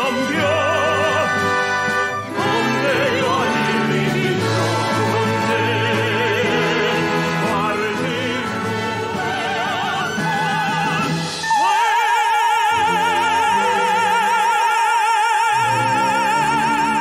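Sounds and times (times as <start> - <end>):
operatic duet singing: 0.0 - 17.0
symphony orchestra playing: 0.0 - 17.0.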